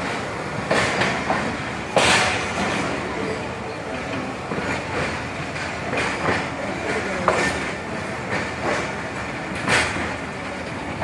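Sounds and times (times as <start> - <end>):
train rumble: 0.0 - 11.0
train wheels clacking over rail joints: 0.0 - 11.0.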